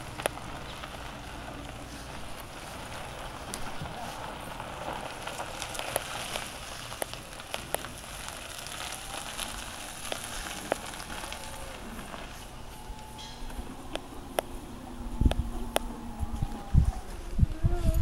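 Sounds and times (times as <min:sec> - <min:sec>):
golf cart rolling on pavement: 0:00.0 - 0:18.0.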